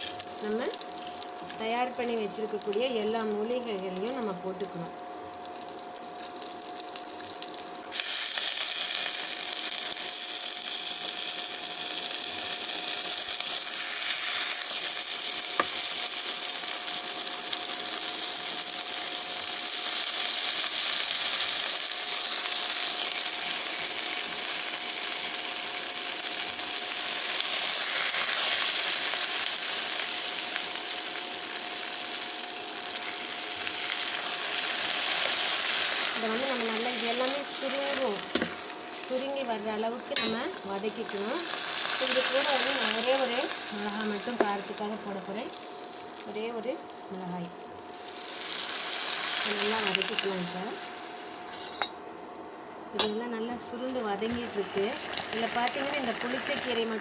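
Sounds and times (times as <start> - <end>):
oil sizzling in a pan: 0.0 - 51.8, 53.3 - 57.0.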